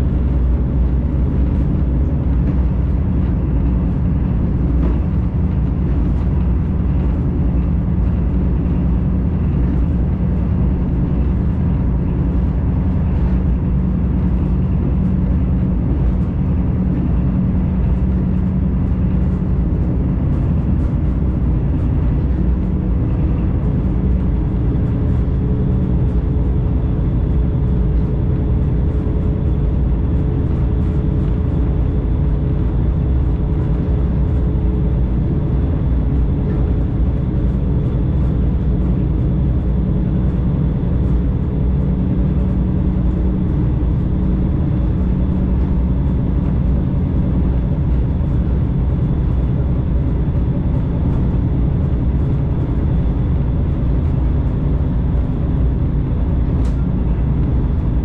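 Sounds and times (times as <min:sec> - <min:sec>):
train low rumble: 0:00.0 - 0:58.0.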